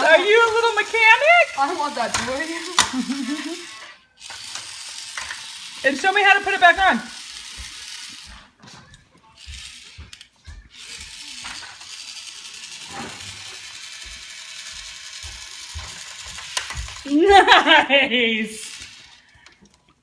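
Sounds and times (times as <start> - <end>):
toy screwdriver motor running: 0.0 - 8.5, 9.3 - 19.6.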